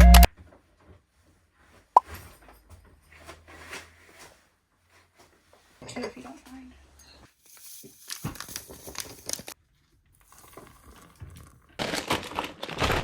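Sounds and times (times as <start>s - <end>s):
crinkling and rustling: 0.4s - 13.0s.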